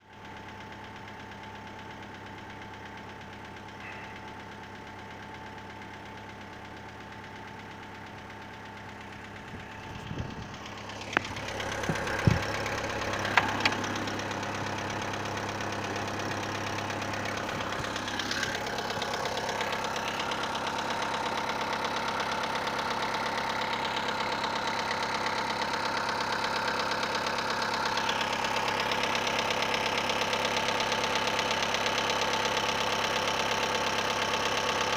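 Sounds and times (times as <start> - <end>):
engine idling with a knock: 0.1 - 34.9.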